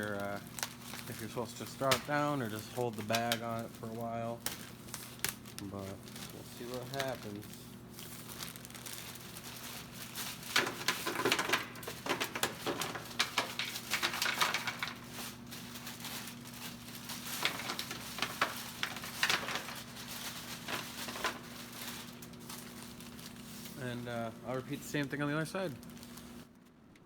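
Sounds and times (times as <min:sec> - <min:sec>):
pellets pattering on metal: 0:00.0 - 0:26.5.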